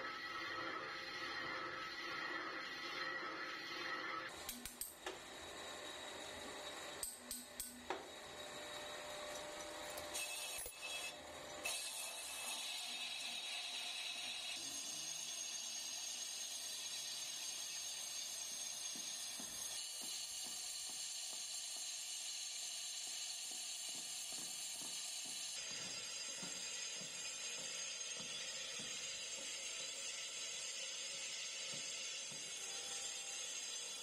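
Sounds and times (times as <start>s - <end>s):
metal lathe cutting brake drum: 0.0s - 22.5s, 23.4s - 34.0s.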